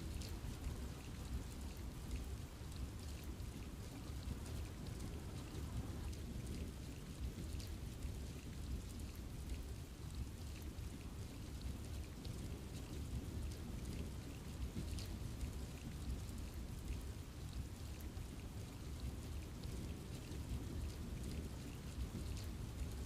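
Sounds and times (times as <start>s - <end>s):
rain falling in forest: 0.0s - 23.0s
raindrop ticks: 0.0s - 23.0s.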